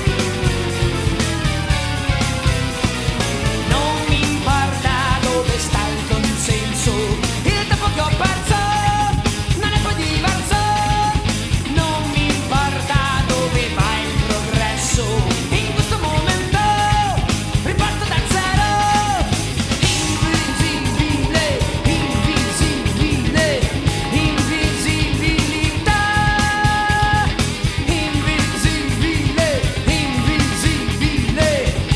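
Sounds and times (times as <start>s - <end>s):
drums: 0.0s - 31.9s
guitar: 0.0s - 31.9s
person singing: 3.7s - 31.9s.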